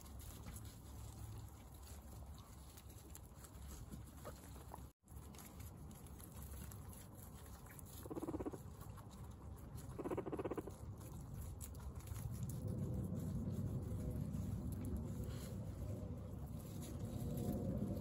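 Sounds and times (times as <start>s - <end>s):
guinea pigs chewing: 0.0s - 18.0s.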